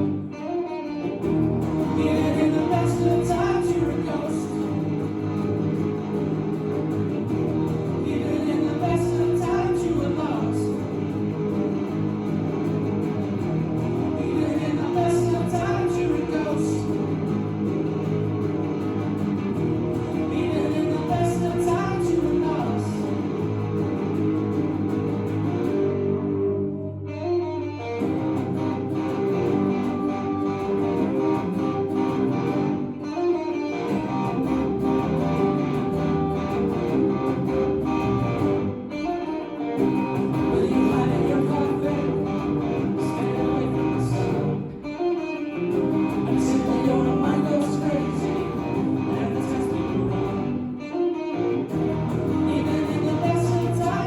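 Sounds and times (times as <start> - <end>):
guitar: 0.0 - 54.0.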